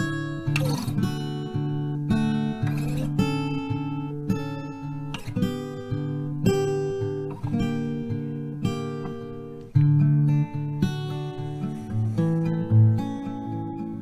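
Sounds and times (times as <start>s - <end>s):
acoustic guitar plucked and strummed: 0.0s - 14.0s.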